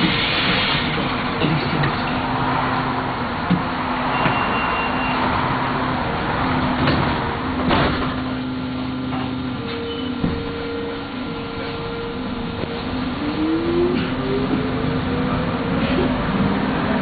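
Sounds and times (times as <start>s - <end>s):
train rumble and rail noise: 0.0s - 17.0s.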